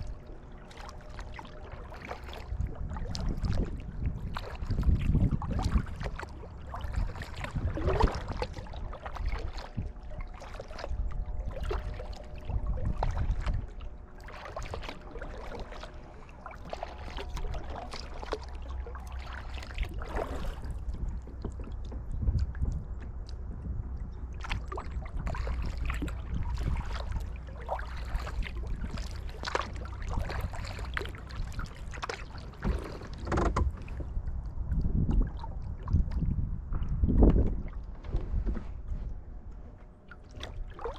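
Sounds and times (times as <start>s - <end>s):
paddle splashing in water: 0.0s - 40.9s
wind rumble on microphone: 0.0s - 40.9s.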